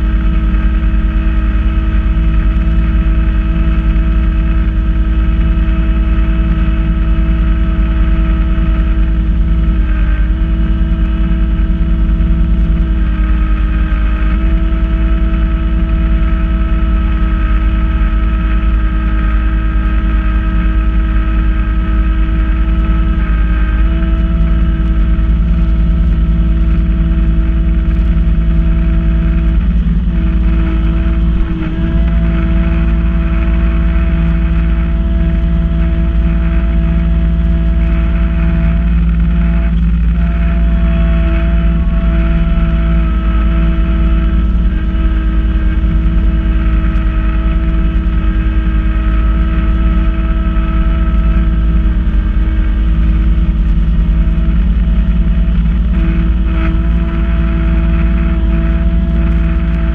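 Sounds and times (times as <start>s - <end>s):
snow blower whine: 0.0s - 59.9s
tractor diesel engine running: 0.0s - 59.9s.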